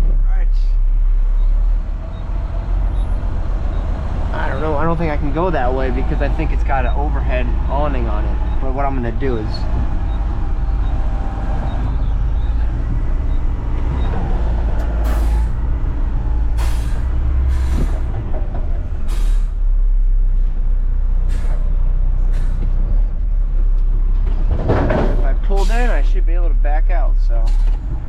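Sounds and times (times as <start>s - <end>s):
garbage truck engine running: 0.8s - 26.4s.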